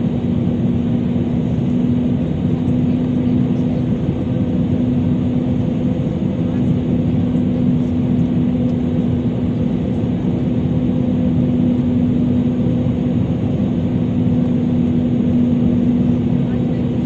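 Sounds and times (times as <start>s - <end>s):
engine and airflow rush: 0.0s - 17.0s
steady low hum: 0.0s - 17.0s.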